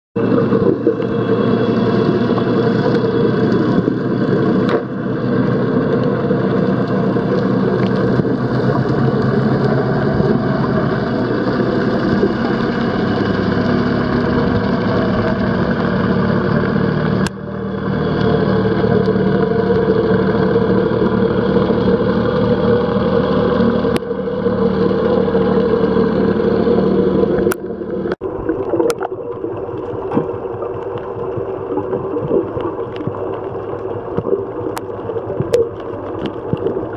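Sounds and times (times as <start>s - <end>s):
boat engine underwater drone: 0.2s - 36.9s.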